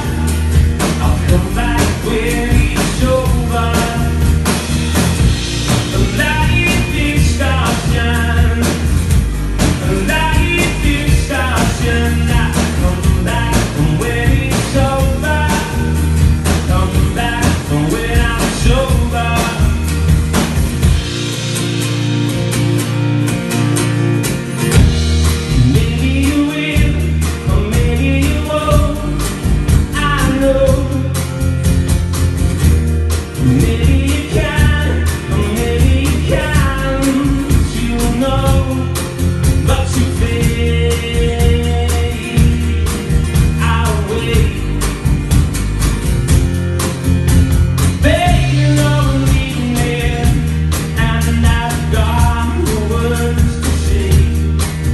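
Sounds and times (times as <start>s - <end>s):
rock song with guitar and vocals: 0.0s - 54.9s.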